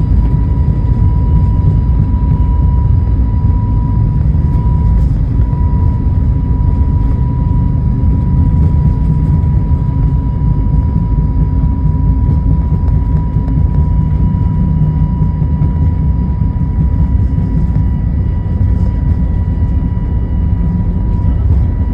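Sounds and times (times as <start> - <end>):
high engine whine: 0.0 - 21.9
jet engines deep rumble: 0.0 - 21.9.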